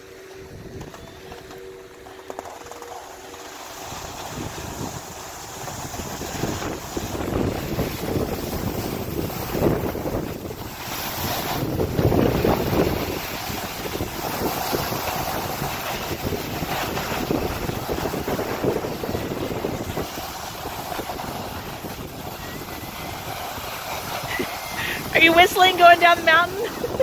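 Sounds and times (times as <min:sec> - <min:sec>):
skis scraping over snow: 0:00.0 - 0:27.0
wind buffeting microphone: 0:03.7 - 0:27.0.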